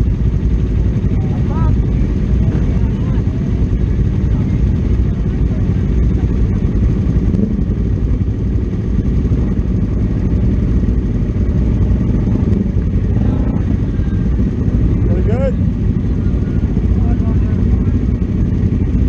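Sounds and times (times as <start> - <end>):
motorcycle engine rumble: 0.0 - 19.0.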